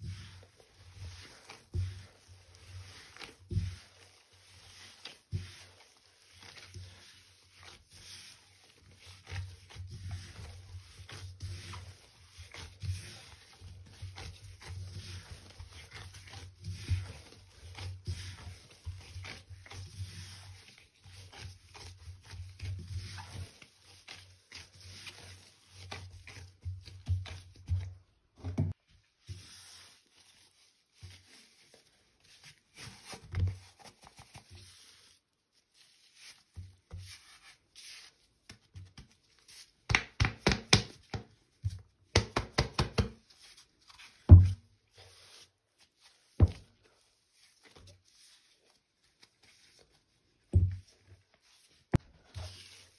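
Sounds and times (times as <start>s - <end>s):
hands squishing wet paste: 0.0s - 52.9s.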